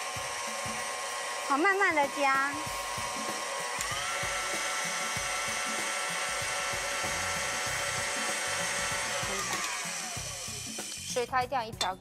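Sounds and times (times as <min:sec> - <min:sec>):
stand mixer motor whining: 0:00.0 - 0:11.2.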